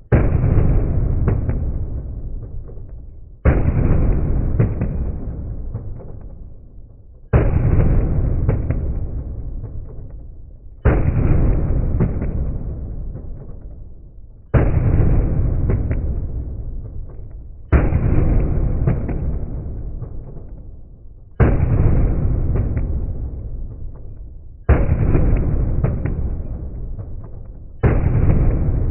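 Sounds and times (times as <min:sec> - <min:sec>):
pistol shots echoing: 0:00.1 - 0:06.6, 0:07.3 - 0:28.9.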